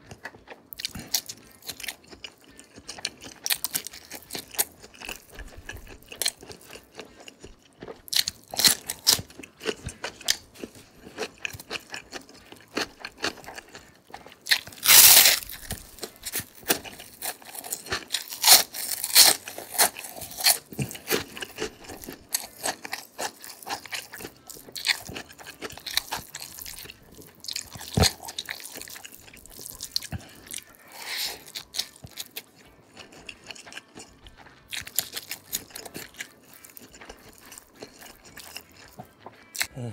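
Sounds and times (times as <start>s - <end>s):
person crunching and chewing food: 0.0s - 39.9s.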